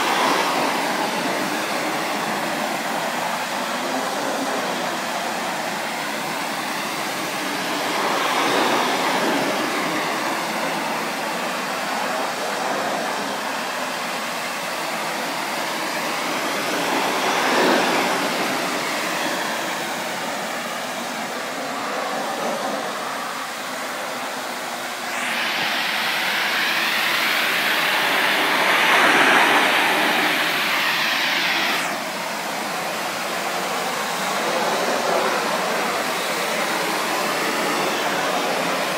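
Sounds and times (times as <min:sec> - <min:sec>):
pressure washer spraying wood: 0:00.0 - 0:38.9.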